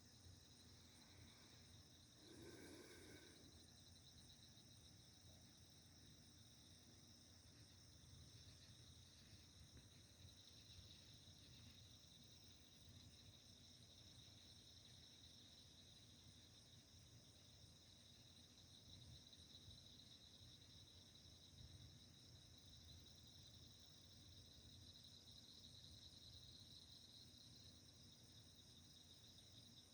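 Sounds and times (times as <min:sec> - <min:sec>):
crickets trilling: 0:00.0 - 0:29.9.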